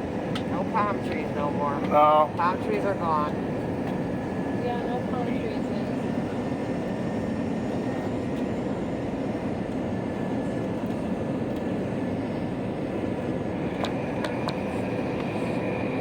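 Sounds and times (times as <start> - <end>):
jet engines and rushing air: 0.0 - 16.0.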